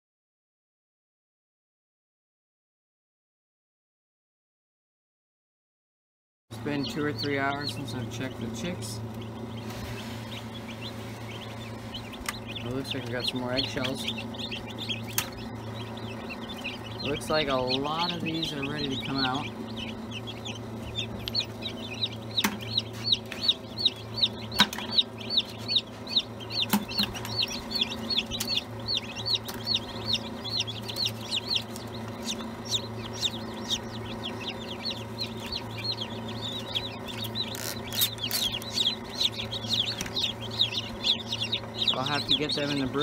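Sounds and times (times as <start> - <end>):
chicks peeping: 6.5 - 43.0
steady low hum: 6.5 - 43.0.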